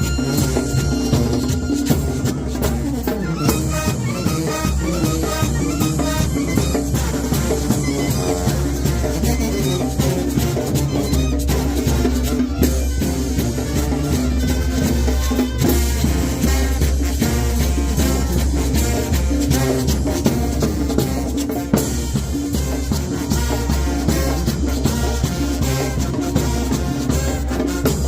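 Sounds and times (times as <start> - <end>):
brass band playing: 0.0 - 28.0.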